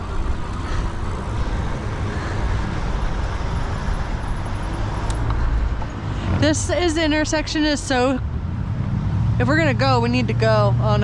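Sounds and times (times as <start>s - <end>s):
road traffic passing cars: 0.0s - 11.0s.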